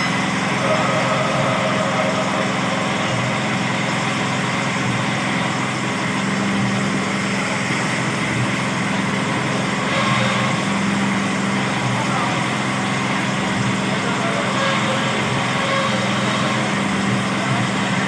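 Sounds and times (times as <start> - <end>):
drilling machine engine humming: 0.0 - 18.0.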